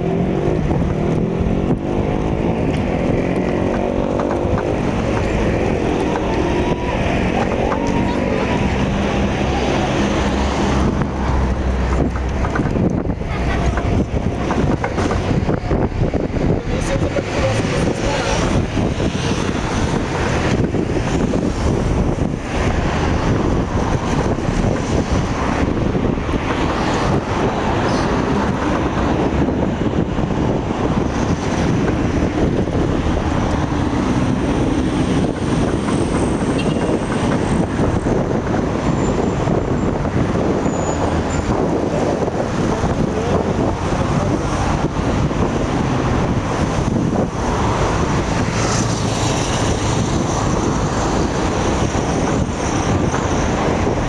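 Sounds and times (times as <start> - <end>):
road traffic: 0.0 - 54.0
wind rumbling on microphone: 0.0 - 54.0.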